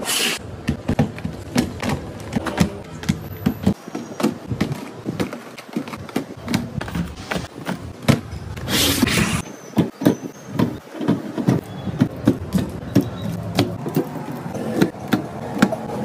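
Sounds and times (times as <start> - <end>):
cardboard boxes tapping and scraping: 0.6 - 16.0.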